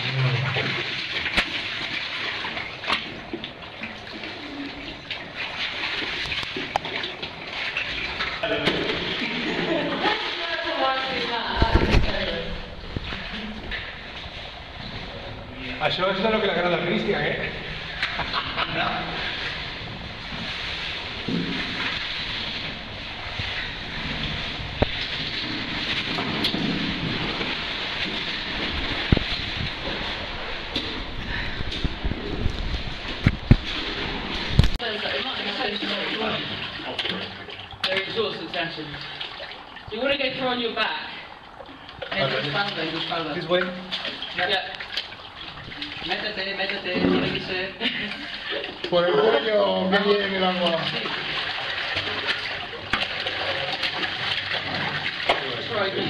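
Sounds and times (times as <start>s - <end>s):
cave stream running: 0.0s - 56.0s.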